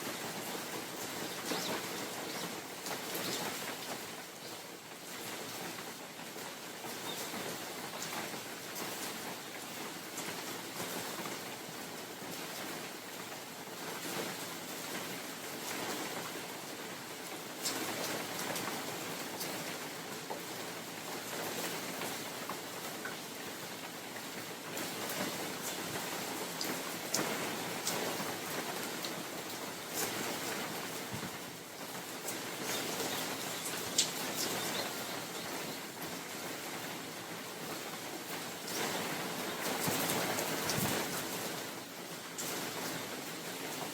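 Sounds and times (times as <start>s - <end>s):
rain falling in a forest: 0.0s - 43.9s
wind: 0.0s - 43.9s.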